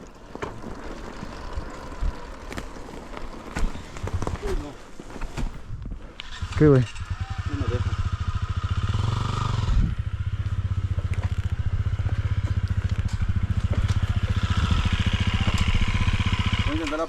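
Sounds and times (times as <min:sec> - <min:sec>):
dirt bike engine running: 0:00.0 - 0:04.8, 0:05.5 - 0:17.0.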